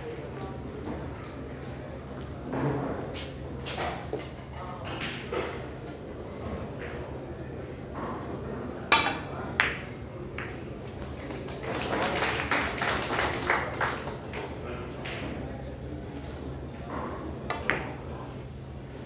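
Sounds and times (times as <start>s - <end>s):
murmur of voices: 0.0s - 19.0s.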